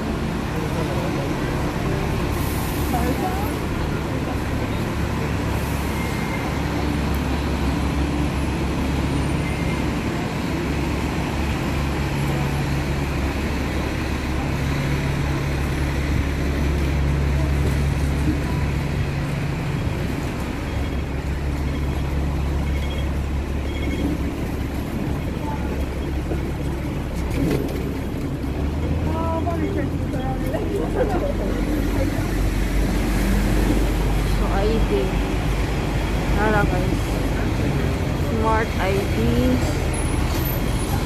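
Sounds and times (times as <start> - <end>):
engine hum: 0.0 - 41.0
road traffic rumble: 0.0 - 41.0.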